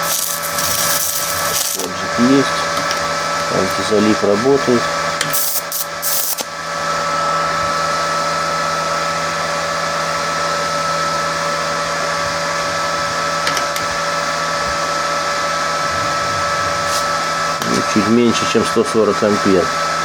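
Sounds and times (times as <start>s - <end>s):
cooling fan blowing: 0.0s - 20.0s
electrical whine: 0.0s - 20.0s.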